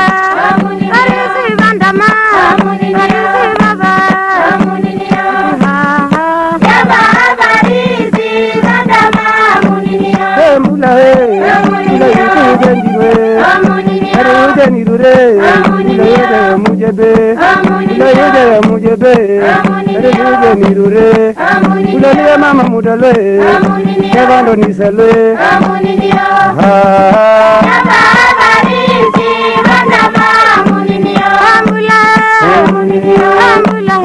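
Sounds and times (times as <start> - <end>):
drum strikes: 0.0 - 34.0.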